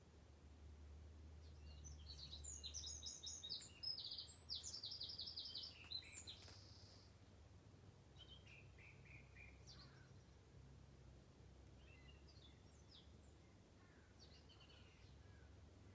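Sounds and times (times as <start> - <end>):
songbird singing: 1.3 - 7.4, 8.0 - 10.7, 11.6 - 15.9.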